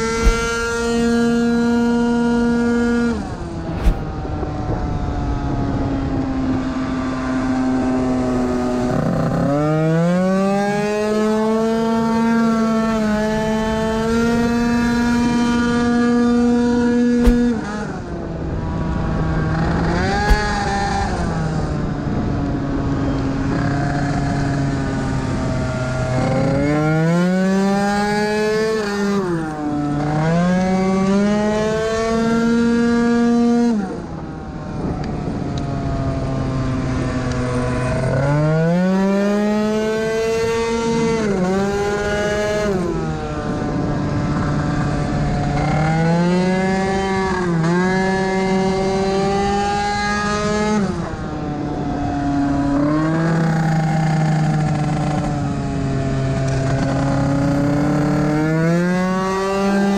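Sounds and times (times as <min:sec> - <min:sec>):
two-stroke scooter engine revving: 0:00.0 - 0:03.4, 0:08.0 - 0:33.9, 0:36.2 - 0:59.9.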